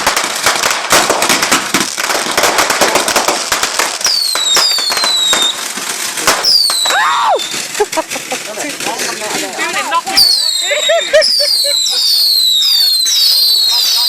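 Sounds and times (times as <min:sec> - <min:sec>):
falling firework whistles: 0:00.0 - 0:09.0, 0:10.1 - 0:14.0
fireworks cracking: 0:00.0 - 0:14.0.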